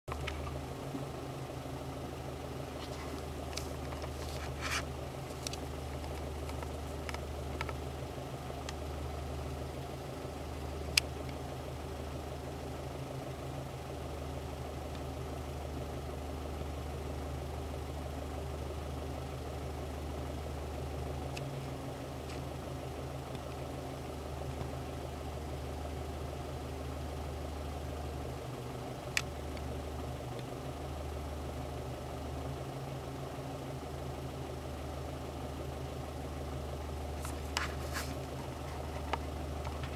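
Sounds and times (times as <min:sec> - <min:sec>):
low engine-like hum: 0:00.1 - 0:39.9.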